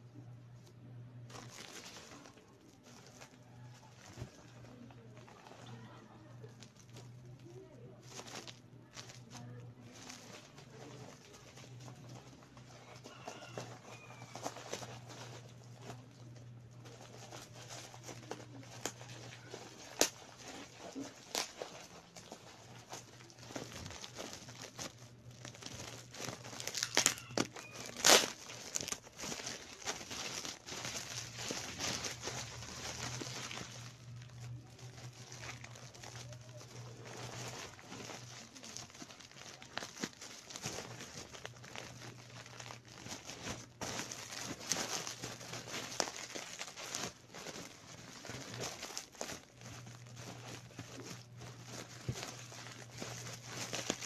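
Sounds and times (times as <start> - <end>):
bubble wrap crinkling: 0.0 - 54.0.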